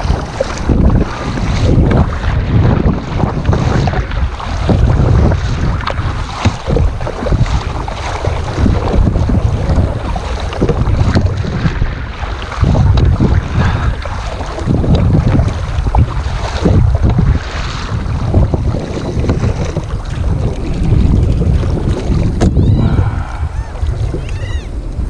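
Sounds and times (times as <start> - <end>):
water sloshing against kayak: 0.0 - 25.0
wind buffeting microphone: 0.0 - 25.0.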